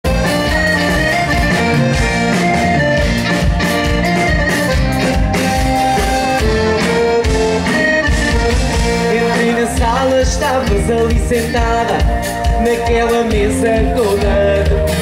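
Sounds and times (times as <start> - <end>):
drums steady beat: 0.0 - 15.0
live band playing instrumental: 0.0 - 15.0.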